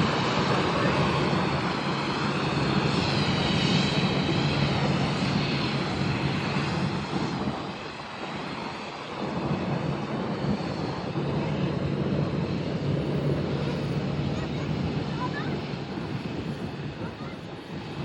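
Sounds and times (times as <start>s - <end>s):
airliner engines running: 0.0s - 18.0s.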